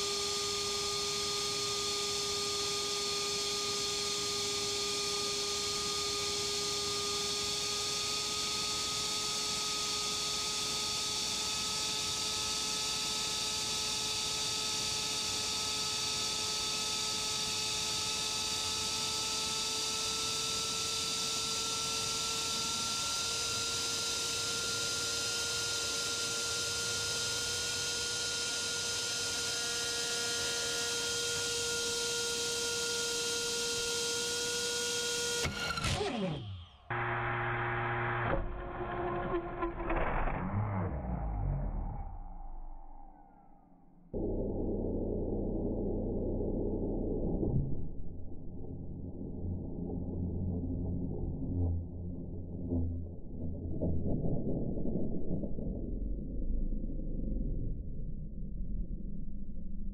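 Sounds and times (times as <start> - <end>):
drone motor whine: 0.0 - 59.9.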